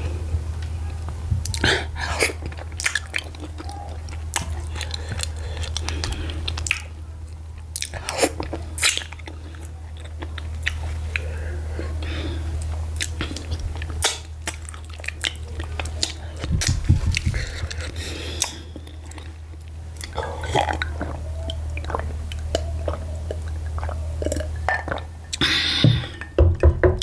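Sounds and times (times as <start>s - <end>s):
steady low hum: 0.0s - 27.0s
wet chewing and finger licking: 1.5s - 11.3s, 12.6s - 25.5s.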